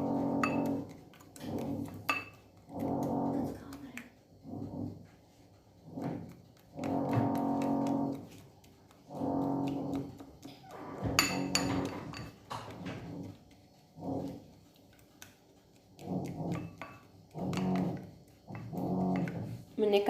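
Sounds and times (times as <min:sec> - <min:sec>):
horn-like background music: 0:00.0 - 0:03.7, 0:04.4 - 0:13.3, 0:15.5 - 0:19.7.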